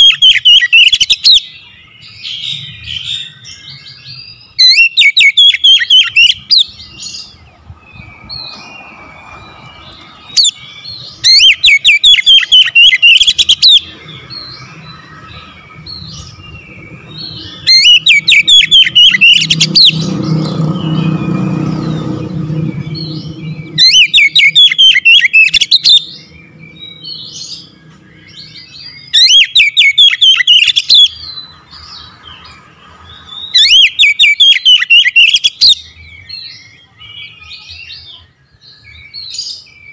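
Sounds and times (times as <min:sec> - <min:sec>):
bird singing sharp sweeping notes: 0:00.0 - 0:39.9.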